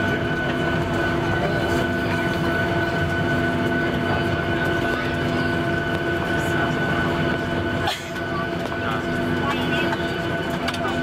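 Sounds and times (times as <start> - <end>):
jet engines idling whine: 0.0 - 11.0
low cabin rumble: 0.0 - 11.0.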